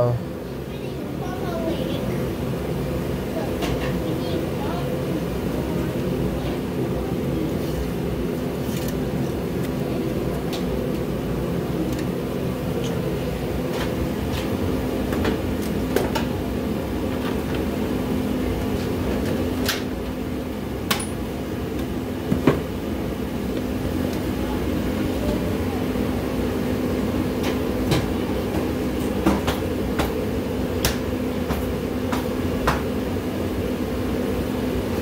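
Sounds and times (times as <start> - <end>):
heater droning: 0.0 - 35.0.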